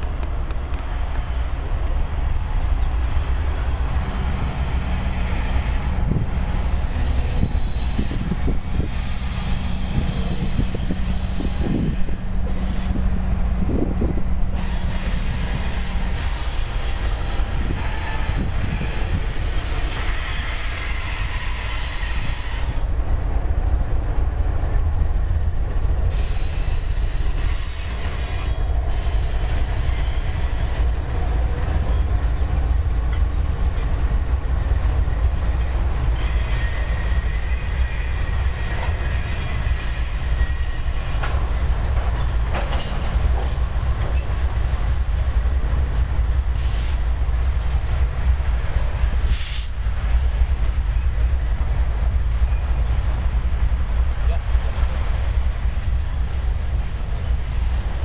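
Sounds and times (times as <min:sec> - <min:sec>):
diesel locomotives rumbling: 0:00.0 - 0:58.0
rail and wheel noise: 0:00.0 - 0:58.0.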